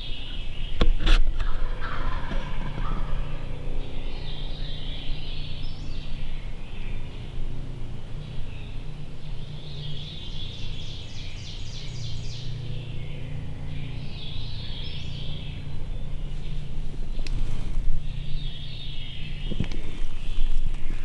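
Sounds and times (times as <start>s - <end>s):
low background rumble: 0.0s - 21.0s
songbirds singing: 0.0s - 21.0s
rapid bird trill: 1.7s - 20.6s.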